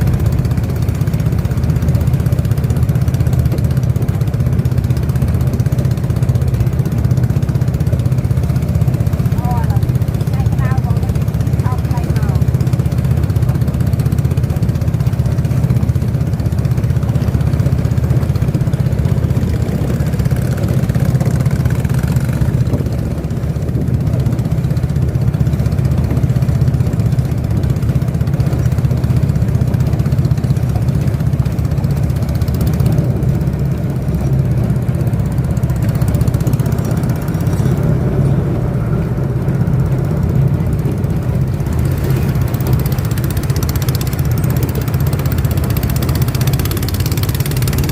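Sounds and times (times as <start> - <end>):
motorboat engine running: 0.0 - 47.9.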